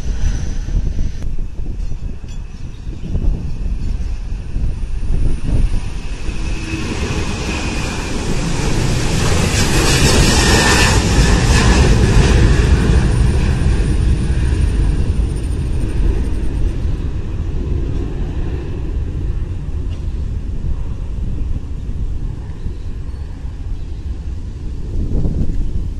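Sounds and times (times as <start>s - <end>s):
jet airliner engines roaring: 0.0s - 25.9s.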